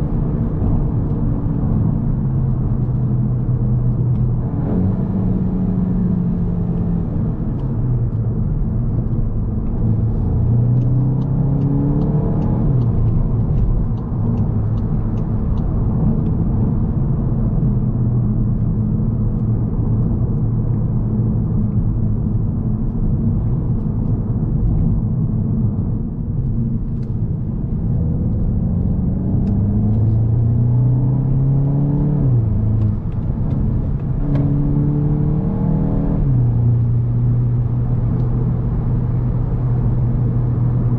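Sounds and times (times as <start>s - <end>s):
car engine accelerating: 0.0s - 40.9s
road noise: 0.0s - 40.9s.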